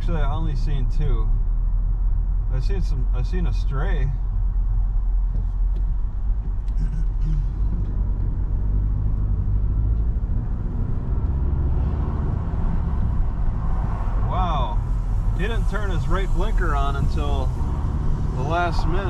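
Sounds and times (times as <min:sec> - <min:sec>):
car engine: 0:00.0 - 0:19.0.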